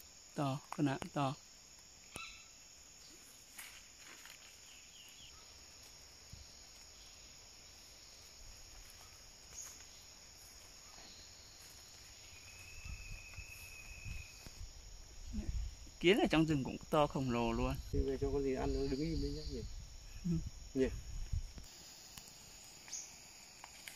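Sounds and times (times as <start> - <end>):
forest insects chorus: 0.0 - 23.9.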